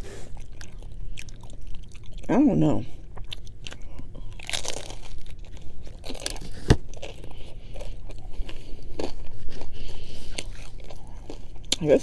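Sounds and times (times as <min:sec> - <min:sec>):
chewing and biting food: 0:00.0 - 0:02.3, 0:03.0 - 0:12.0.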